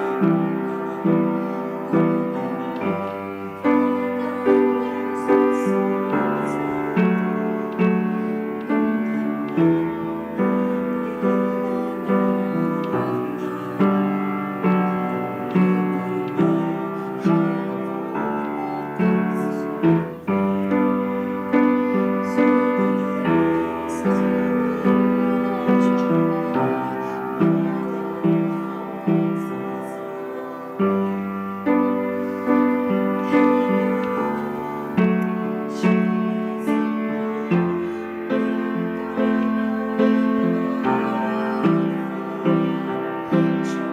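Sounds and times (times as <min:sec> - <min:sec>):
slow piano-like melody: 0:00.0 - 0:43.9.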